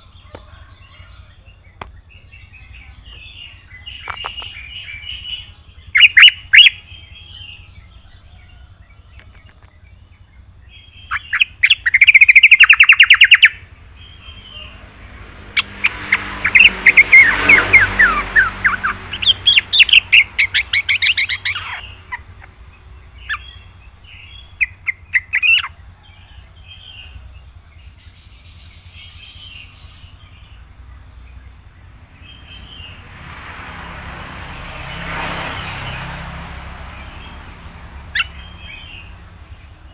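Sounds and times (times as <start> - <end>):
bird chattering song: 0.0 - 33.1, 36.8 - 39.9.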